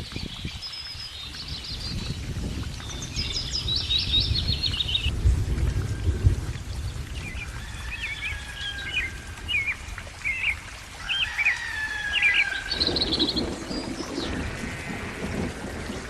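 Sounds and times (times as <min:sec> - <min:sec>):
birds chirping: 0:00.0 - 0:05.1, 0:06.0 - 0:16.0.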